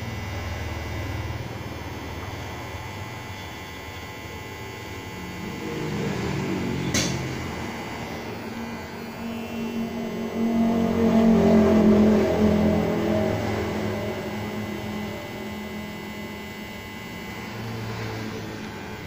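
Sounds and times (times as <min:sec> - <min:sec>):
hair trimmer buzzing: 0:00.0 - 0:19.0.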